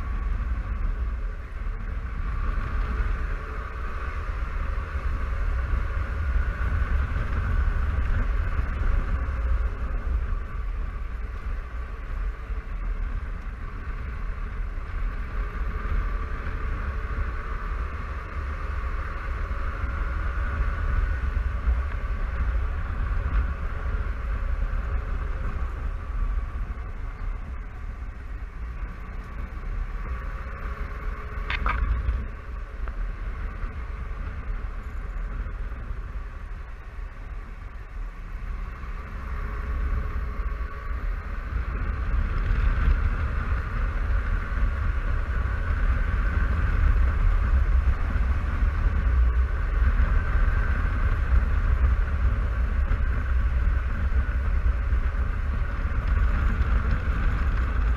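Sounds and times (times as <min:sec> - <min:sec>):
scooter engine drone: 0:00.0 - 0:57.9
wind rumble: 0:00.0 - 0:57.9.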